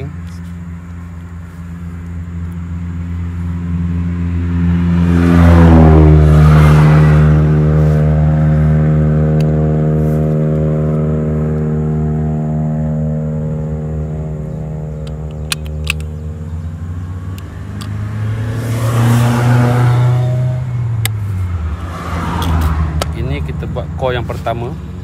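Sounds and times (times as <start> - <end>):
low engine hum: 0.0 - 25.0
vehicle passing by: 0.0 - 25.0.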